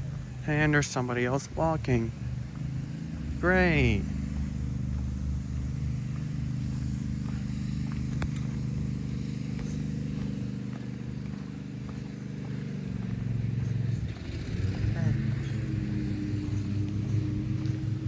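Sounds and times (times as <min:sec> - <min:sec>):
motor humming: 0:02.1 - 0:18.0.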